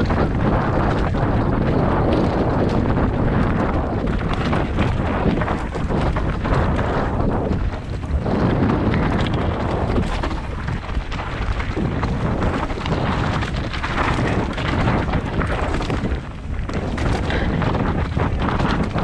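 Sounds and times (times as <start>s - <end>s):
bike rattling over rocky trail: 0.0s - 19.0s
wind buffeting microphone: 0.0s - 19.0s.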